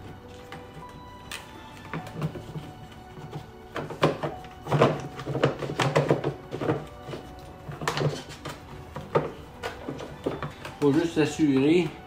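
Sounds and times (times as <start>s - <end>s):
hard plastic parts knocking: 1.9s - 12.0s.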